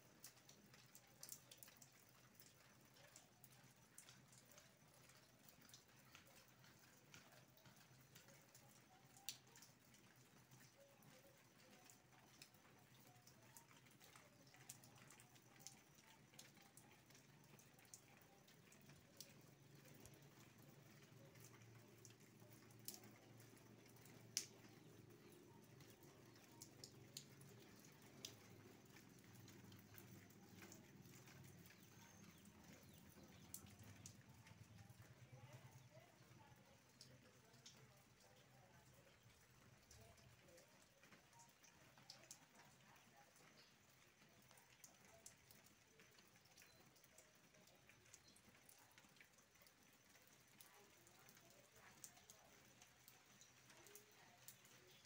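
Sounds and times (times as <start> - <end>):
faint steady rain: 0.0 - 55.0
drips tapping: 0.1 - 55.0.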